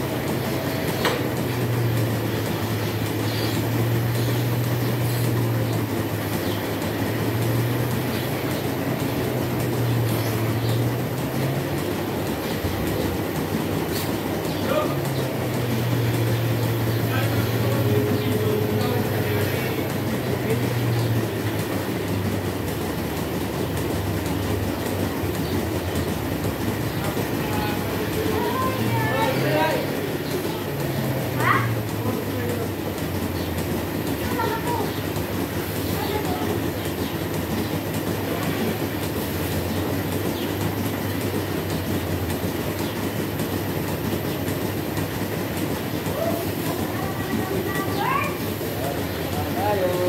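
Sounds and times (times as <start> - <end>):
mechanical clatter: 0.0 - 50.0
milking machinery hum: 0.0 - 50.0.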